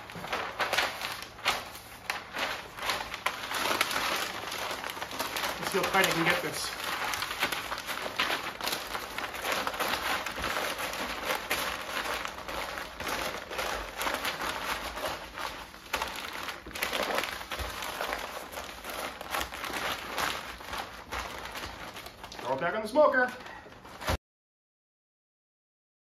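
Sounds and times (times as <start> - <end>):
paper crinkling and rustling: 0.0 - 24.2.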